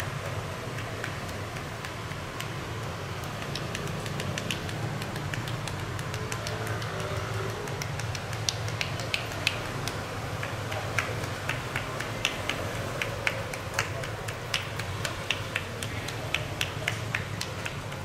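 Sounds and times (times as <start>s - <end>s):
hands slapping on bare back: 0.0s - 18.0s.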